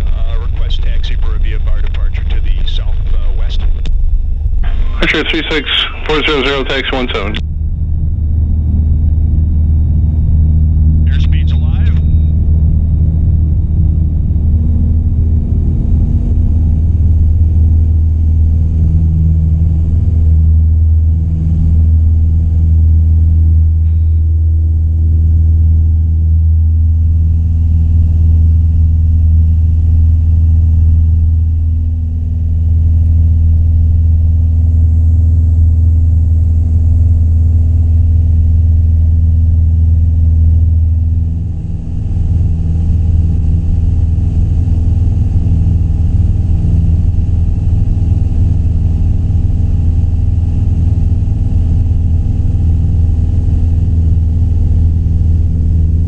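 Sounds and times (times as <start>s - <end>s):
airplane engine drone in cabin: 0.0s - 56.0s.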